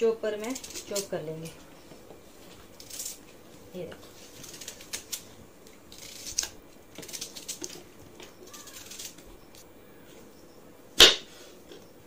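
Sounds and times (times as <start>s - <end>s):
dry onion skin crackling: 0.0s - 10.1s.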